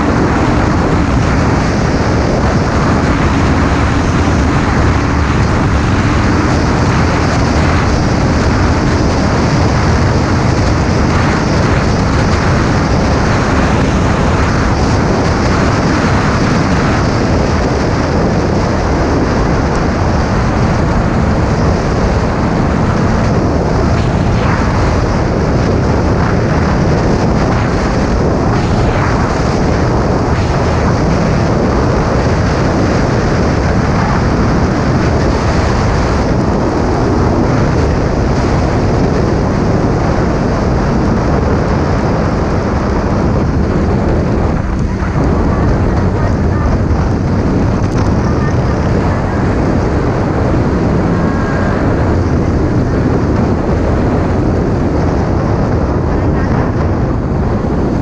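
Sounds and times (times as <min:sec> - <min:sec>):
motorcycle engine at speed: 0:00.0 - 0:58.0
wind rushing on microphone: 0:00.0 - 0:58.0.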